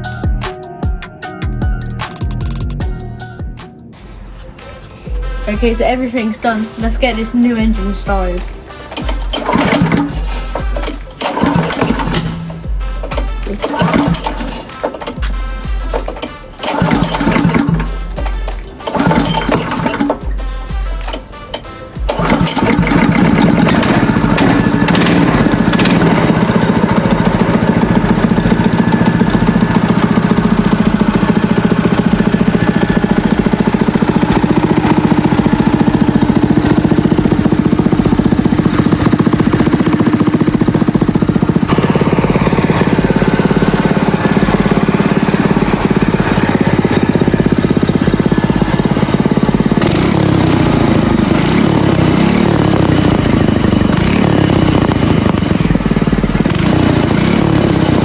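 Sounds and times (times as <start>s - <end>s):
go-kart engine revving: 4.0s - 58.0s.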